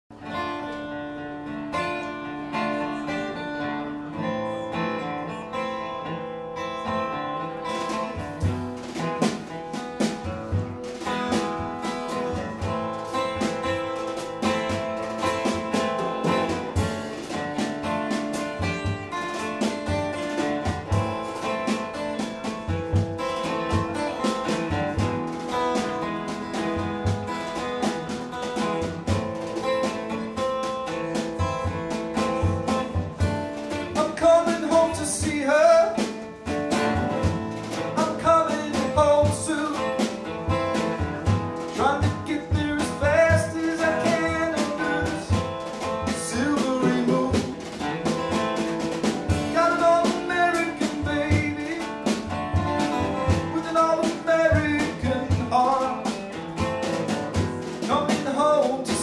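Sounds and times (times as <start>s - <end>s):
acoustic guitar strumming: 0.1s - 59.0s.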